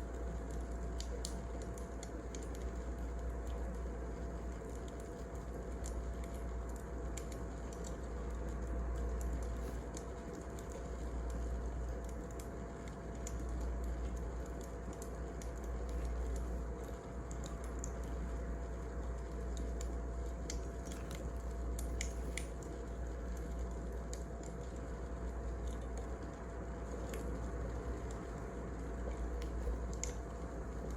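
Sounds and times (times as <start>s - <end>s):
fire snaps and pops: 0.0s - 30.9s
low rumble of burning logs: 0.0s - 30.9s.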